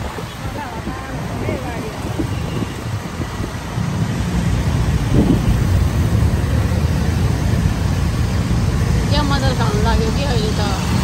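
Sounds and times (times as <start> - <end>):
street traffic: 0.0 - 11.0
wind rumbling on microphone: 0.0 - 11.0.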